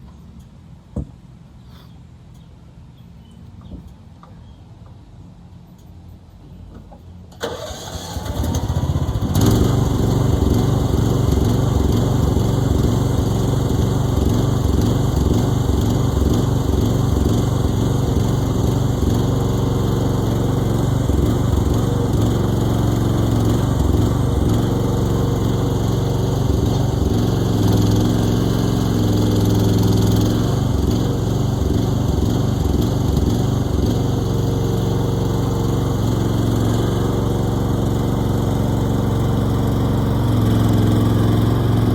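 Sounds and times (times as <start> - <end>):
excavator engine starting and running: 3.4 - 41.9.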